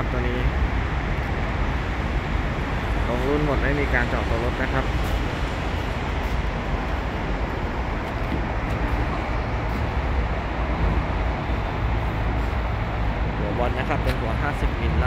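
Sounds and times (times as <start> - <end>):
street traffic: 0.0 - 15.0
vehicle engine rumbling: 0.0 - 15.0.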